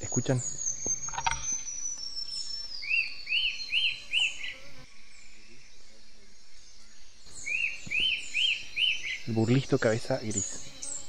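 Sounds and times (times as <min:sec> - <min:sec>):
bird singing whistled notes: 0:00.0 - 0:11.0
faint forest background: 0:00.0 - 0:11.0.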